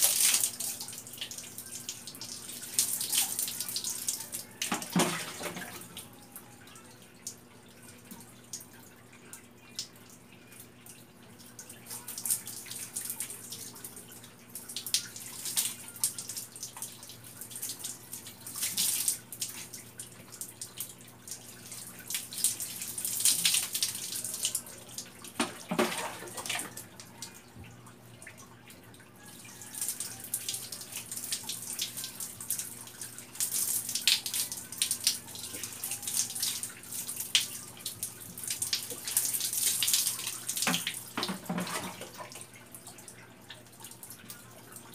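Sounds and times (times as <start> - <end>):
water poured and splashing: 0.0 - 6.1, 11.4 - 27.6, 28.2 - 44.9.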